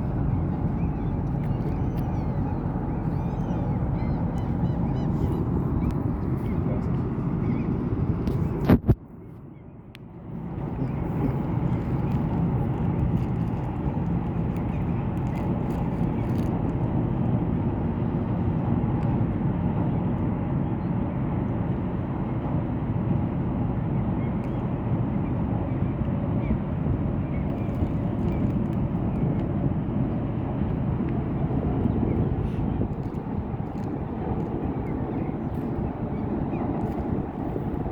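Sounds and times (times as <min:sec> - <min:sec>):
wind on microphone: 0:00.0 - 0:09.3, 0:10.2 - 0:37.9
boat engine rumble: 0:00.0 - 0:37.9.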